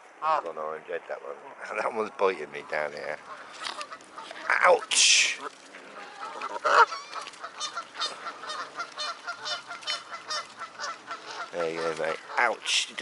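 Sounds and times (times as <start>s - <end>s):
waterbirds honking: 1.7s - 13.0s.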